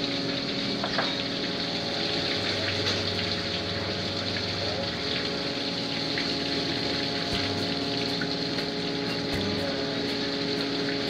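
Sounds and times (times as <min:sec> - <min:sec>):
boat engine running: 0:00.0 - 0:11.0
rushing water: 0:00.0 - 0:11.0.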